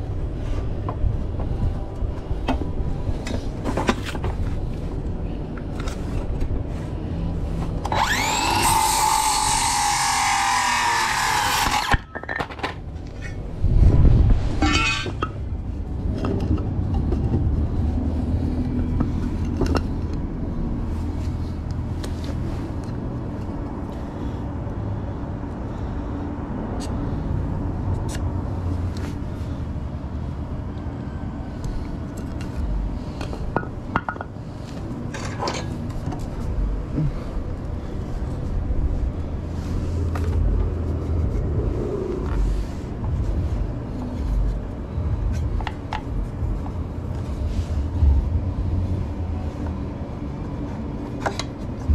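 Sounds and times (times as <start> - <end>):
low rumble: 0.0 - 9.2, 12.8 - 32.0, 36.2 - 50.9.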